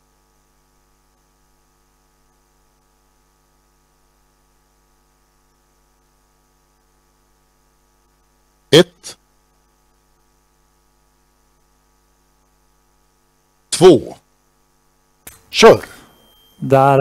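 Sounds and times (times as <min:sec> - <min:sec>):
faint electrical mains hum: 0:00.0 - 0:17.0.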